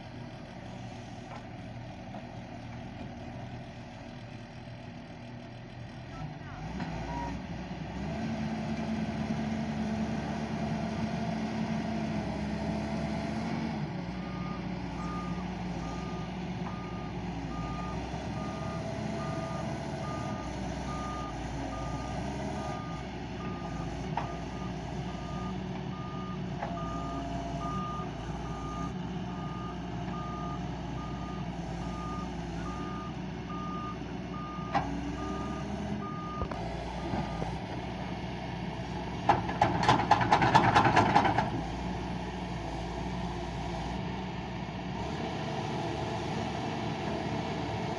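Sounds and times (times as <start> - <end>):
heavy engine running: 0.0 - 47.9.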